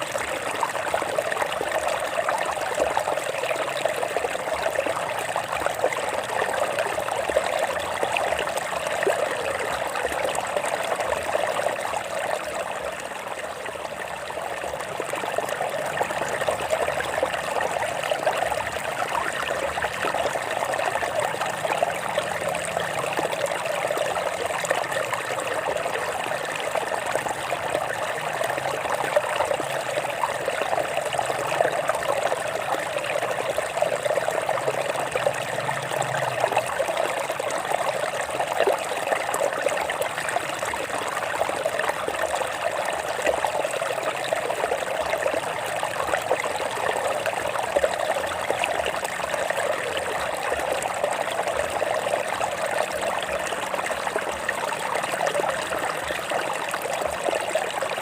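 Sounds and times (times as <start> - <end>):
stream water trickling over rocks: 0.0 - 58.0.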